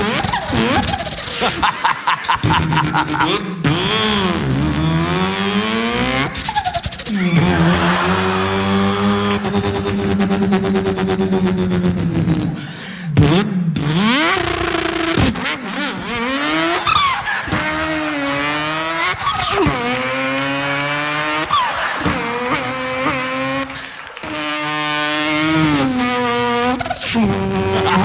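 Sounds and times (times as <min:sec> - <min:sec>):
man imitating car engine: 0:00.0 - 0:28.0.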